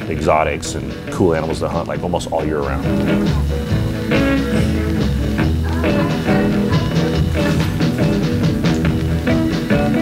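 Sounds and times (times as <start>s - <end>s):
drum kit beat: 0.0s - 10.0s
electric guitar: 0.0s - 10.0s.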